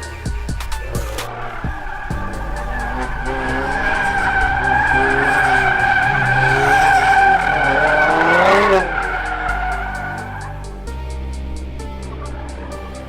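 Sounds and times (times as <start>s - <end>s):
car tires squealing: 0.0s - 10.8s
car engine revving: 0.0s - 13.0s.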